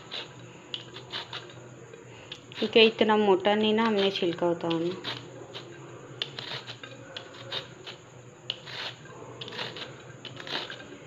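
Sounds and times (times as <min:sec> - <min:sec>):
peeler scraping vegetable skin: 0:00.0 - 0:01.6, 0:02.3 - 0:03.0, 0:03.6 - 0:10.9.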